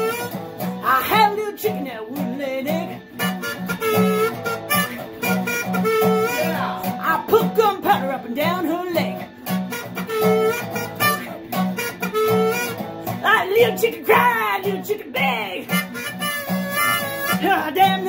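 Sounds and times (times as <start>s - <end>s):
harmonica melody: 0.0s - 18.0s
strummed acoustic guitar: 0.0s - 18.0s.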